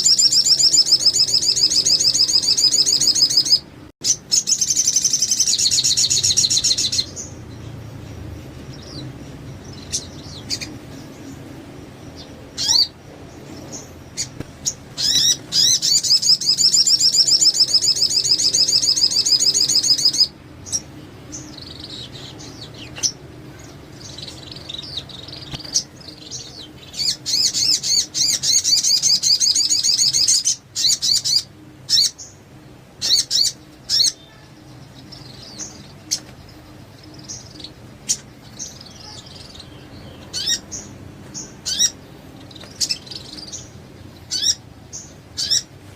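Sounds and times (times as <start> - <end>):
songbird chattering song: 0.0 - 45.9.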